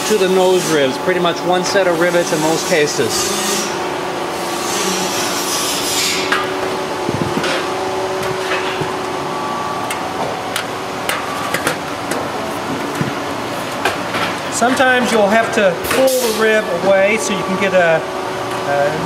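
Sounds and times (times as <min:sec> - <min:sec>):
workshop hum and hiss: 0:00.0 - 0:19.0.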